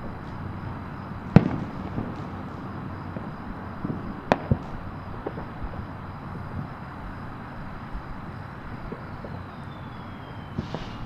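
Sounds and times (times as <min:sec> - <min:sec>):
fireworks bangs: 0:00.0 - 0:11.0
steady background hum: 0:00.0 - 0:11.0.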